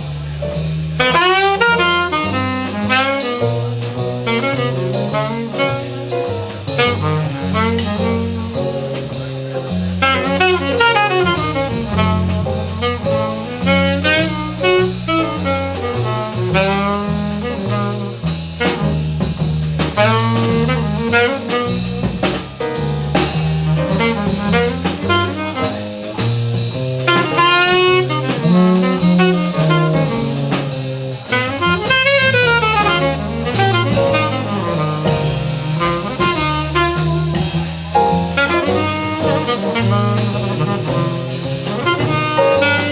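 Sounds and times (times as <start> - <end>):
drum kit keeping time: 0.0 - 42.9
walking bass: 0.0 - 42.9
saxophone melody: 0.9 - 19.2, 20.0 - 22.6, 23.6 - 26.2, 27.0 - 42.9.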